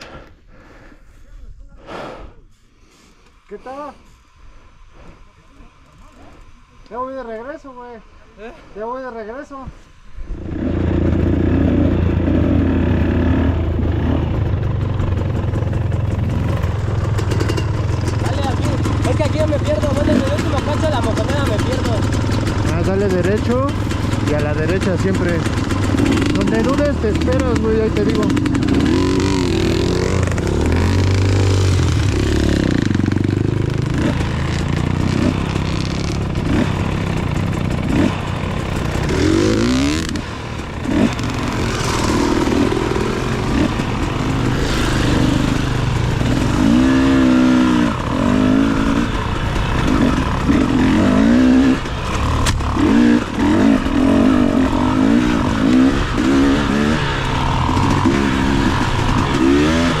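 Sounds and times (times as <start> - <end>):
dirt bike engine revving: 10.2 - 60.0.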